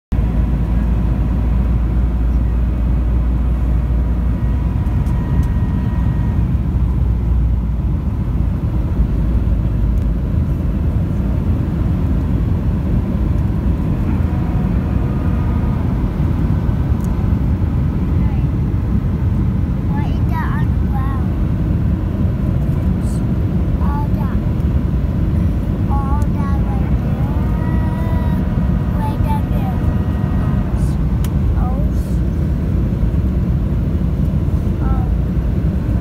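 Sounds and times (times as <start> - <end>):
jet engines and rushing air rumble: 0.1 - 36.0
faint steady whine: 0.2 - 36.0.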